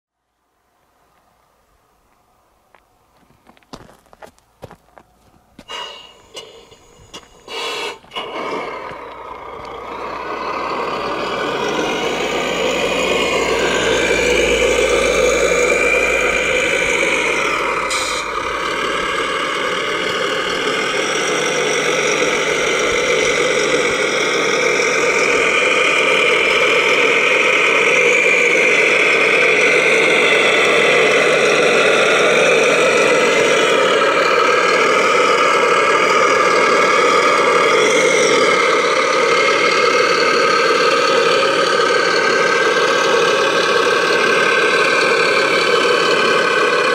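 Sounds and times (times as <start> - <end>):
model trucks engine-like sound: 0.1 - 46.9.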